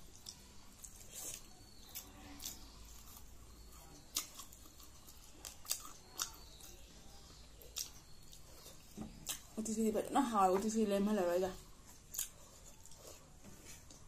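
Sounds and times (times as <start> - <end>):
person chewing: 0.0 - 9.6, 11.6 - 14.0
faint low hum: 0.0 - 14.0.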